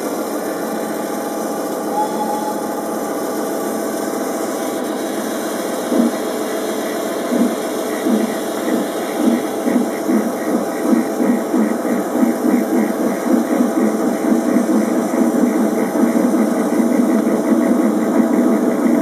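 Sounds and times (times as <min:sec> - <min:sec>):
steady hum: 0:00.0 - 0:19.0
steam locomotive chuffing: 0:00.0 - 0:19.0.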